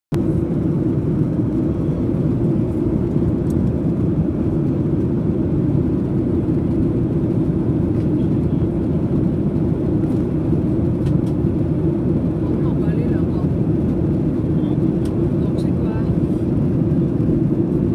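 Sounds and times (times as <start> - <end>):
airliner cabin noise: 0.1 - 17.9.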